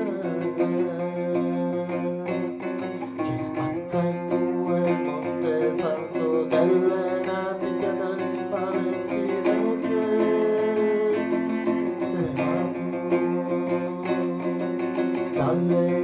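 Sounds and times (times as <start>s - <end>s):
solo guitar plucking: 0.0s - 16.0s.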